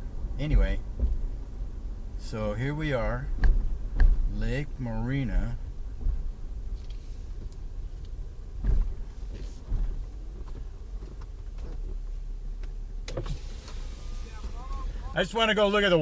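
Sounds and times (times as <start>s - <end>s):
car rolling rumble from cabin: 0.0s - 16.0s.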